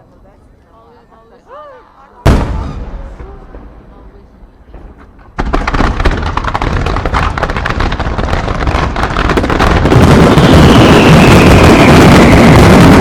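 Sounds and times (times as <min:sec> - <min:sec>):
aerial fireworks bangs and crackling: 0:02.3 - 0:13.0.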